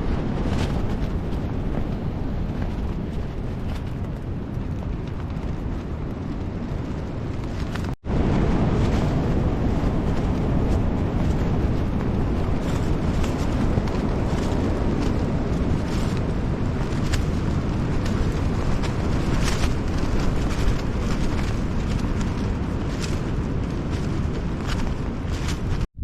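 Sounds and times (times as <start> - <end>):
strong wind buffeting tent: 0.0 - 26.0.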